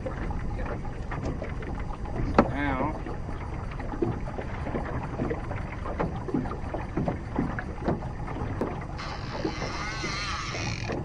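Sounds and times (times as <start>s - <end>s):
small waves slapping a metal hull: 0.0s - 11.0s.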